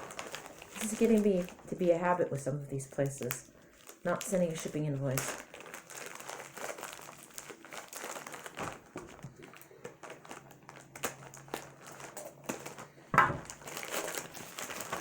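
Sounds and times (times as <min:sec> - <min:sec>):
crinkly packaging rustling: 0:00.0 - 0:15.0.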